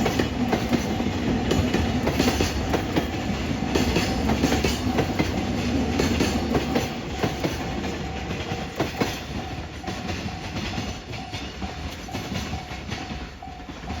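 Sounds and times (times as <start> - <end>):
train wheels clattering over rail joints: 0.0 - 14.0.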